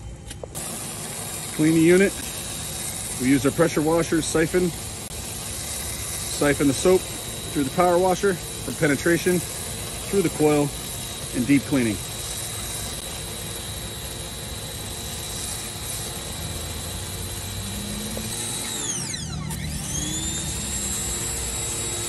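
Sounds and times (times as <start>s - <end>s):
high whine: 0.0s - 22.0s
pressure washer spraying water: 0.5s - 22.0s.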